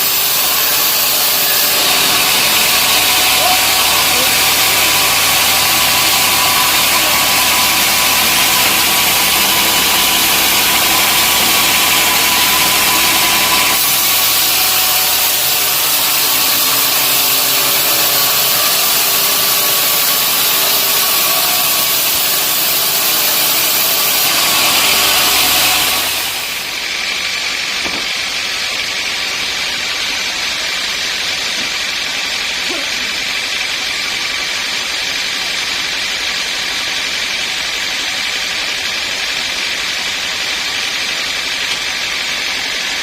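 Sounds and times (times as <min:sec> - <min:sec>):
saw cutting through log: 0:00.0 - 0:43.0.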